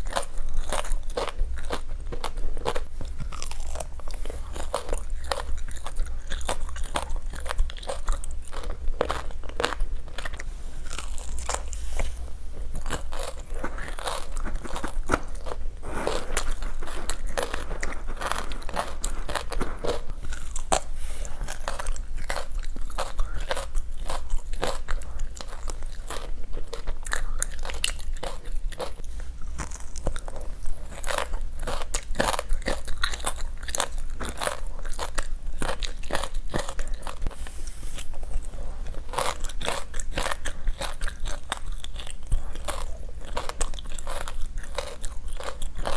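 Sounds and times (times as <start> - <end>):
crunchy chewing: 0.0 - 45.9.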